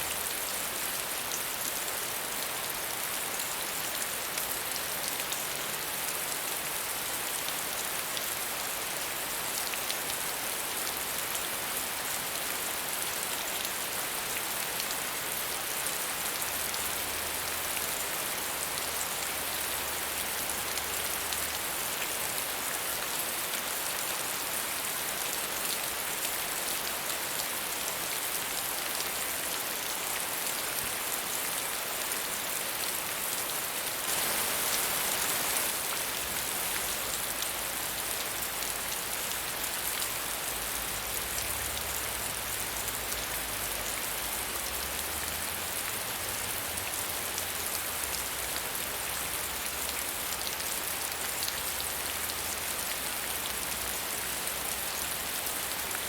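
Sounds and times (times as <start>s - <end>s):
rain hissing on surfaces: 0.0s - 56.0s.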